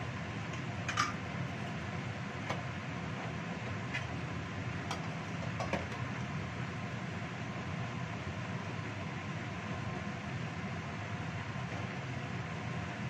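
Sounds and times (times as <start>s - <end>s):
sauce boiling in a wok: 0.0s - 13.0s.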